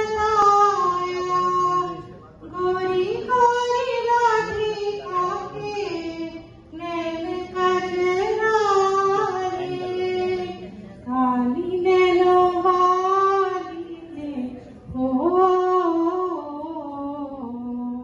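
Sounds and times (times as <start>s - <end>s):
woman singing through speakers: 0.0s - 18.0s.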